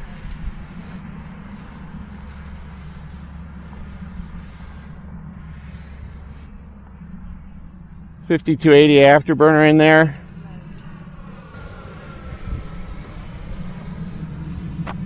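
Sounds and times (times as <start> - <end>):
electric fan jet whine: 0.0 - 15.0
wind rumble on microphone: 0.0 - 15.0.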